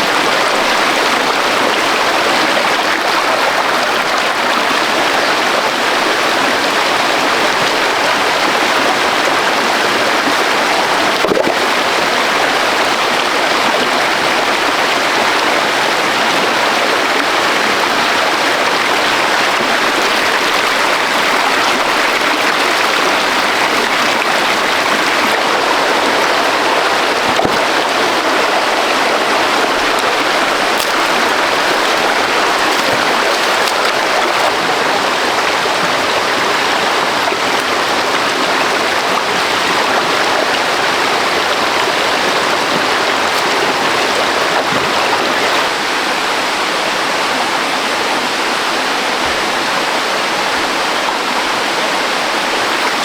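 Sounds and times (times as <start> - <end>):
water rushing over rocks: 0.0 - 47.6, 48.2 - 53.0.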